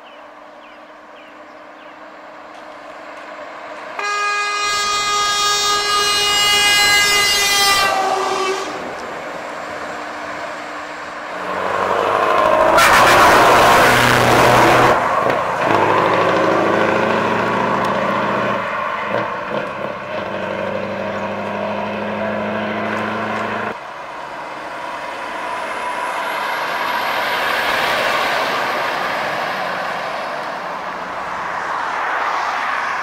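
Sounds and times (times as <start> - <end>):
diesel truck engine drone: 0.0 - 33.0
truck passing by: 0.2 - 33.0.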